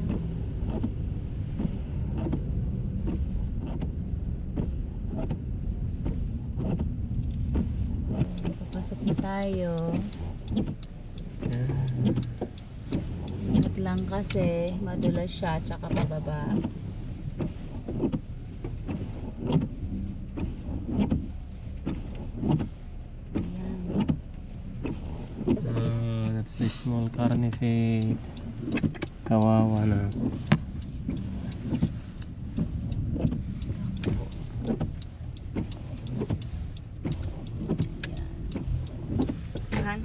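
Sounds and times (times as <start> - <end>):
car engine rumbling: 0.0 - 40.0.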